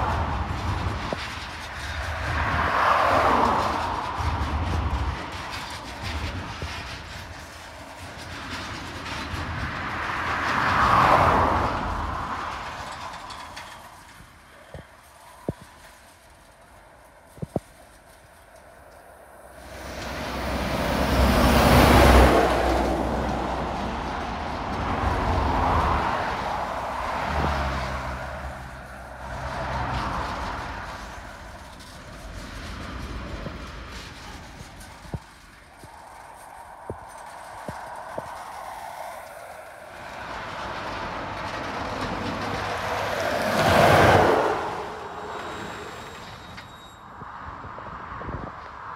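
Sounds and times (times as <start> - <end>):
car passing: 0.0 - 6.6, 9.5 - 16.4, 19.1 - 46.4
heavy truck passing: 0.0 - 48.5
road vehicle tyre noise: 0.0 - 48.9
train wagons rumbling: 0.0 - 48.9.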